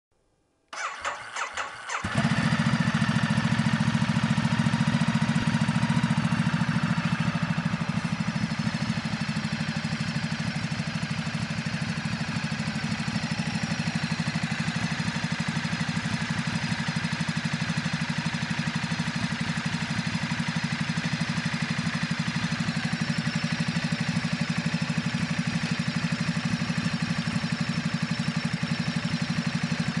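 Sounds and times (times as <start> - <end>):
motorcycle engine idling: 0.8 - 30.0.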